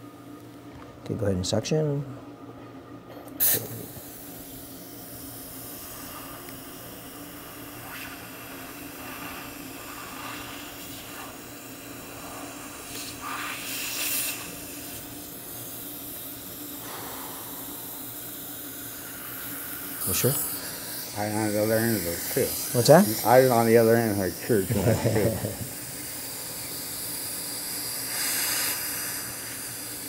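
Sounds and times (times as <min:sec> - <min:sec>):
dental suction hissing: 0:03.4 - 0:30.0.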